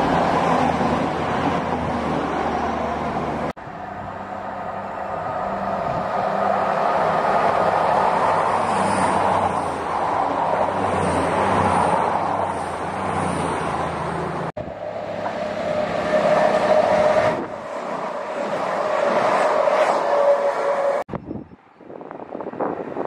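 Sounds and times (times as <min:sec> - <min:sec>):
diesel train passing: 0:00.0 - 0:21.1
diesel train passing fast: 0:00.0 - 0:21.1
train whine: 0:00.0 - 0:21.1.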